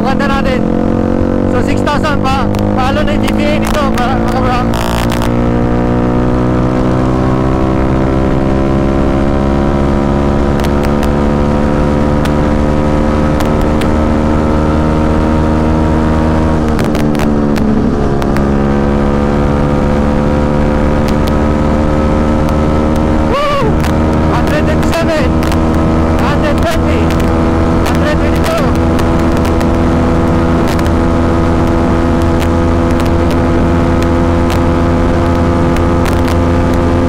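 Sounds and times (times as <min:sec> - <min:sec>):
motorcycle engine at high revs: 0:00.0 - 0:37.0.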